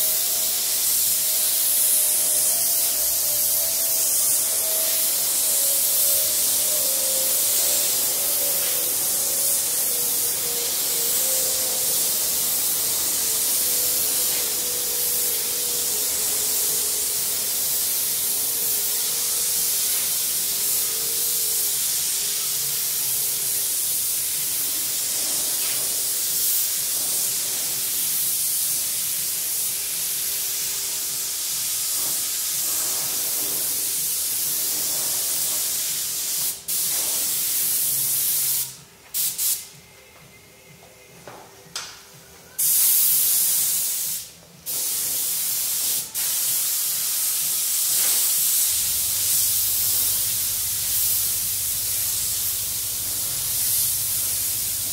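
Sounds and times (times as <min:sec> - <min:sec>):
paint spray gun hissing: 0:00.0 - 0:39.7, 0:42.6 - 0:54.9.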